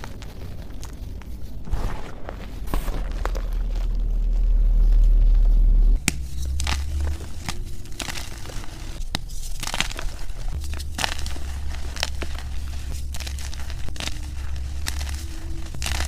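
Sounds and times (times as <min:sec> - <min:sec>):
chalk crumbling: 0:00.0 - 0:16.0
deep rumble: 0:00.0 - 0:16.0
hands squeezing chalk: 0:00.0 - 0:16.0.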